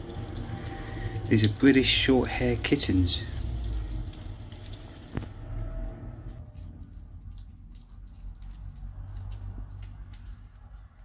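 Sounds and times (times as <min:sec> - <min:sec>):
kittens chewing and licking: 0:00.0 - 0:11.0.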